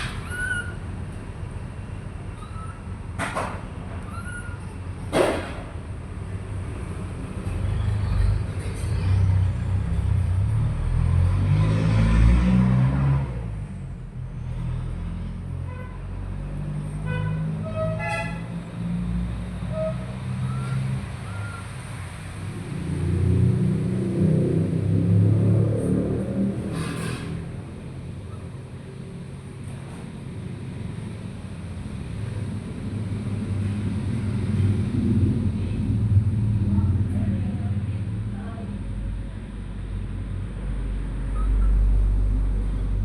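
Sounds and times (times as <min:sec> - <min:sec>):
low engine rumble: 0:00.0 - 0:11.4, 0:13.3 - 0:43.0.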